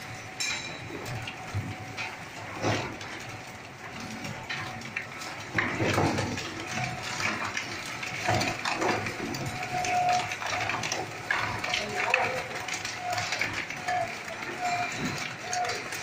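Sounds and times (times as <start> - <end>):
machine humming: 0.0 - 16.0
plastic shredder crunching: 1.0 - 16.0.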